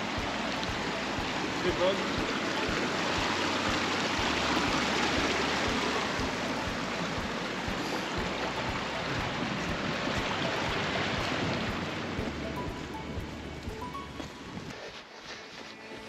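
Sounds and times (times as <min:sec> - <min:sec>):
steady rushing hiss: 0:00.0 - 0:16.0.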